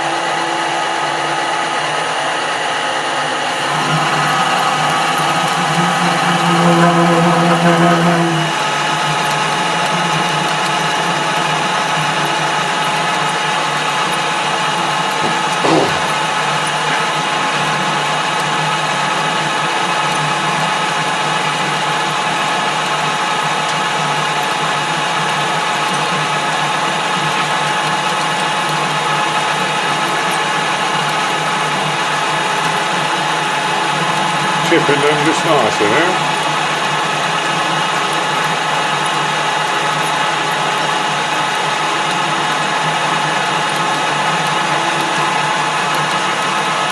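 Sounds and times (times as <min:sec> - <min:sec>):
metal lathe whining: 0:00.0 - 0:46.9.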